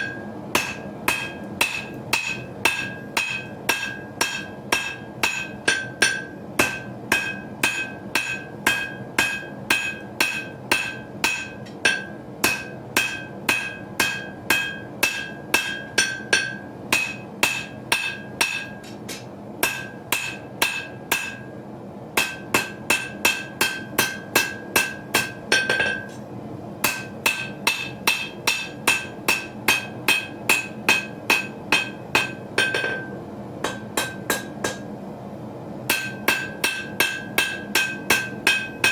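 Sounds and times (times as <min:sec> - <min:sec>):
hammer striking steel on anvil: 0:00.0 - 0:21.6, 0:22.2 - 0:26.2, 0:26.8 - 0:34.9, 0:35.9 - 0:38.9.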